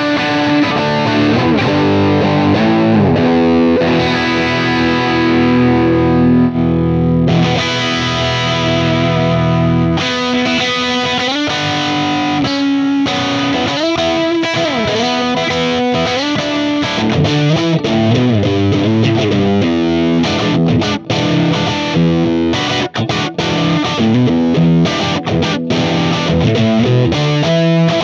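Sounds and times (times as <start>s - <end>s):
overdriven electric guitar lead: 0.0s - 28.0s.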